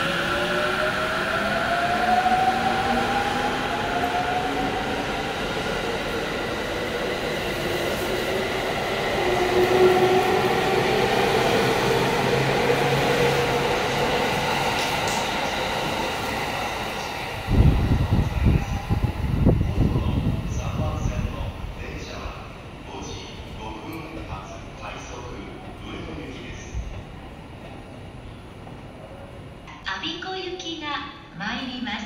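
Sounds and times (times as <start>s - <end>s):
train wheels rumbling on rail: 0.0s - 29.7s.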